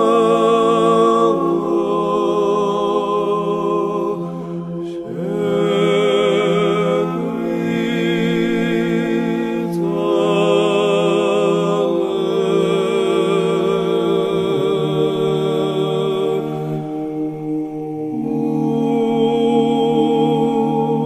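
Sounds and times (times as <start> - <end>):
chant-like singing: 0.0 - 21.0.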